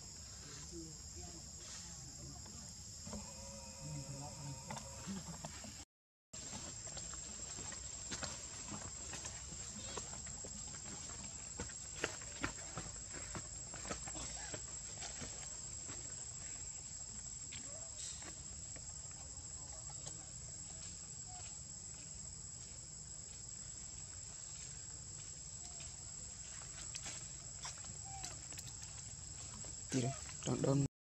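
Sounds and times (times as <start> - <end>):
insects droning: 0.0 - 5.8, 6.4 - 30.9.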